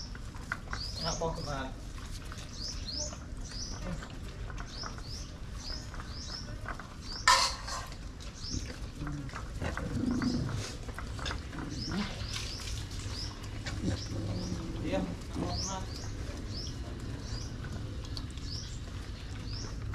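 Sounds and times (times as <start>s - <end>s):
birds chirping high peeps: 2.4s - 4.0s, 4.6s - 9.2s, 9.9s - 19.9s.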